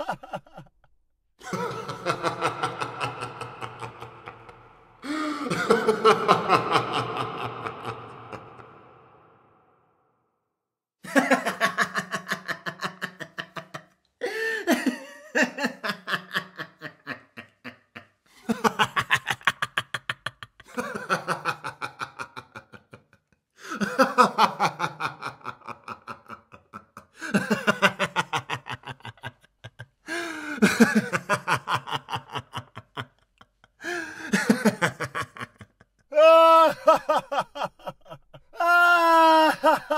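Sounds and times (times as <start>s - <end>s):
man laughing heartily: 0.0s - 9.4s, 11.0s - 39.9s.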